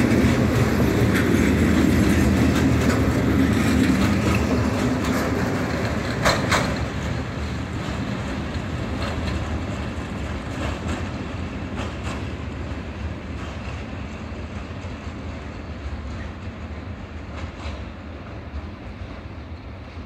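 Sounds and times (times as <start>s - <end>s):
freight train rolling past: 0.0s - 20.0s
wheels clacking over rail joints: 0.0s - 20.0s.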